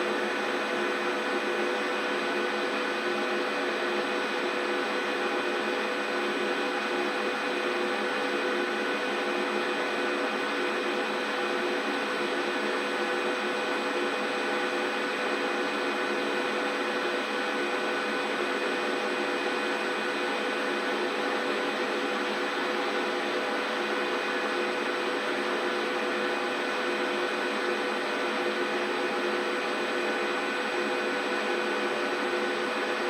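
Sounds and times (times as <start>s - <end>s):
washing machine motor whirring: 0.0s - 33.0s.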